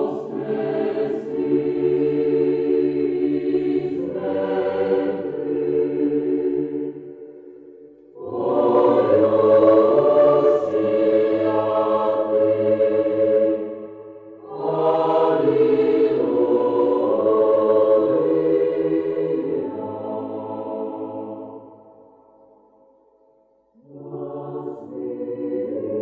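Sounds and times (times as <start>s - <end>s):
choir chanting: 0.0s - 22.7s, 23.7s - 26.0s.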